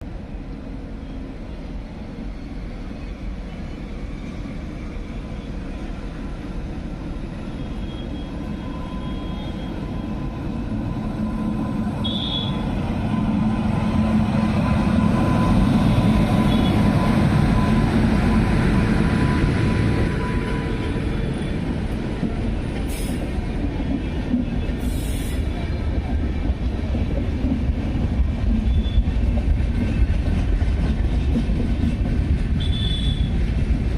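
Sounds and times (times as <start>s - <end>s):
train rumbling on track: 0.0s - 33.9s.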